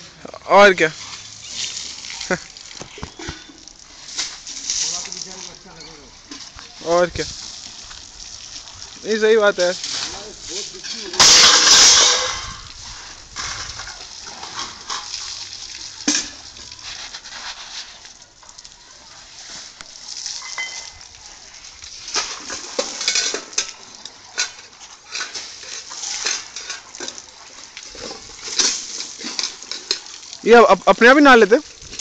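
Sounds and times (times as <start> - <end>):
water splashing from elephant trunk: 0.9 - 32.0.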